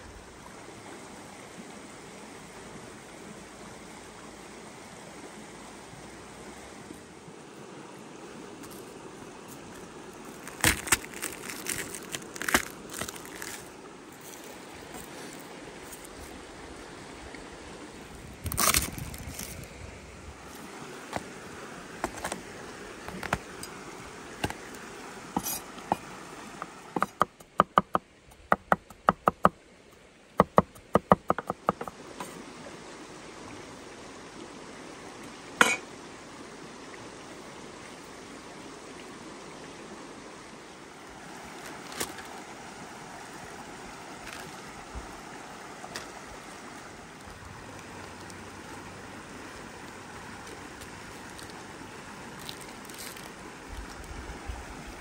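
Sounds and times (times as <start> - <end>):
stream rushing: 0.0 - 55.0.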